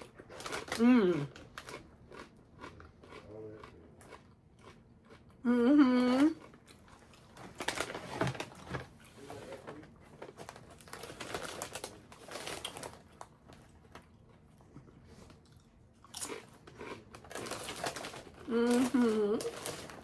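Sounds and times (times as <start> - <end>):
crunching tortilla chips: 0.0 - 5.3, 6.4 - 8.6, 10.4 - 14.2, 15.2 - 20.0.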